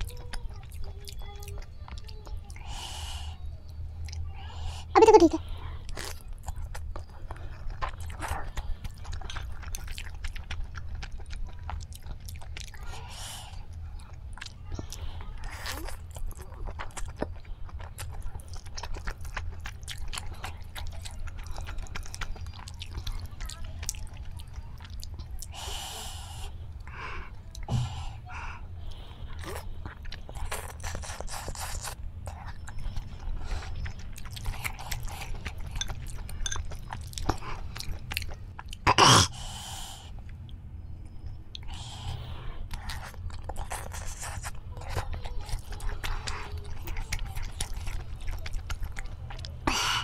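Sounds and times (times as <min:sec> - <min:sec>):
wet chewing of noodles: 0:00.0 - 0:50.0.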